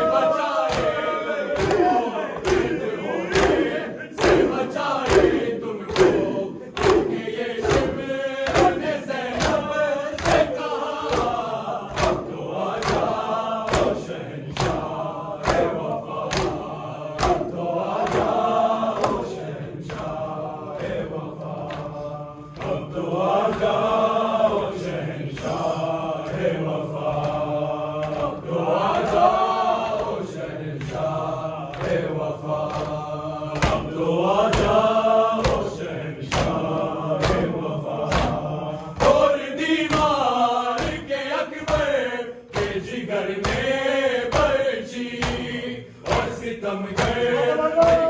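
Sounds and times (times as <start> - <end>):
hands slapping chests: 0.0 - 25.6, 26.2 - 48.0
men chanting in unison: 0.0 - 48.0.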